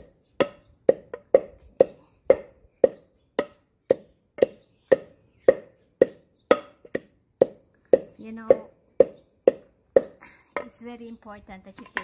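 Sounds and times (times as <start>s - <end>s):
pestle pounding in a mortar: 0.4s - 10.7s.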